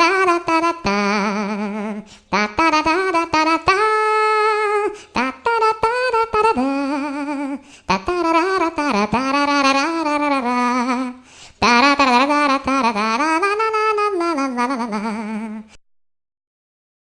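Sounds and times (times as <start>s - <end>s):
person singing wordless tune: 0.0s - 15.8s.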